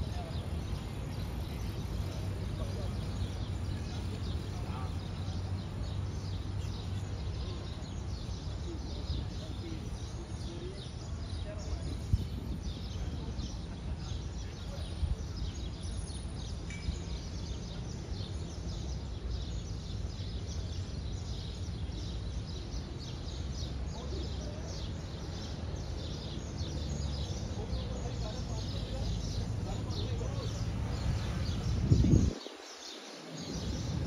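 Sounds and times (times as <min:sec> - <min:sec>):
low city rumble: 0:00.0 - 0:34.0
small birds chirping: 0:00.0 - 0:34.0.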